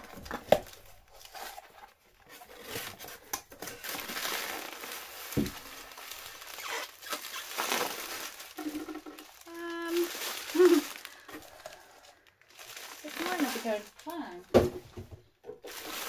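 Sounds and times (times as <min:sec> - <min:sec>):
plastic and paper crinkling: 0:00.0 - 0:16.0.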